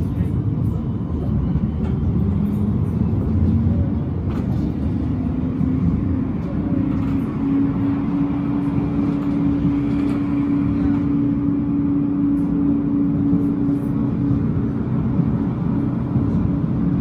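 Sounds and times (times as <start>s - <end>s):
tram motor whine: 0.0s - 17.0s
wheels rumbling on rail: 0.0s - 17.0s.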